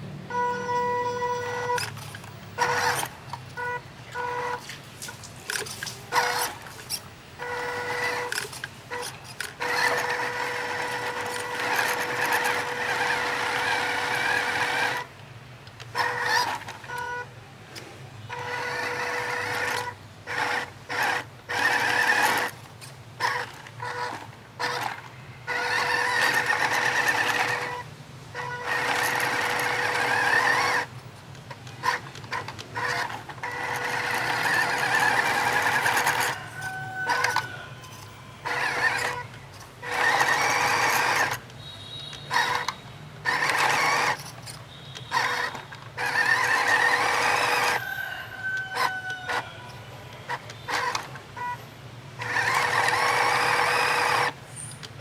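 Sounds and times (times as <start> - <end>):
toy car motor and gears: 0.3 - 55.0.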